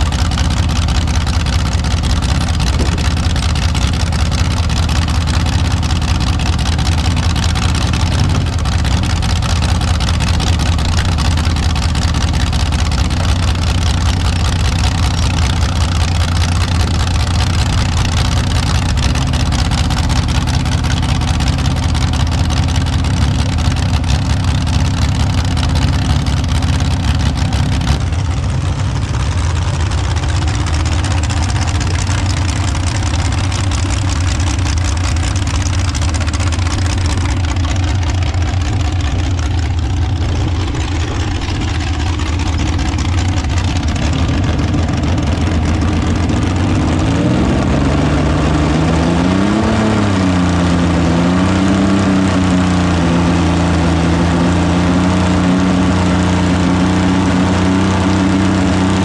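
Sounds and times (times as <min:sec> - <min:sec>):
engine running and revving: 0:00.0 - 0:59.0.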